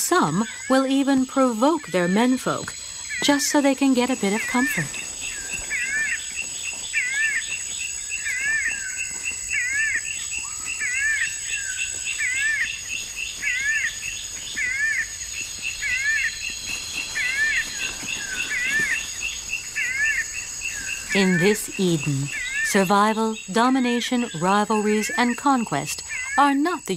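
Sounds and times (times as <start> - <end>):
bird calling: 0.0 - 26.9
high insect whine: 0.0 - 26.9
insects chirping: 0.0 - 26.9.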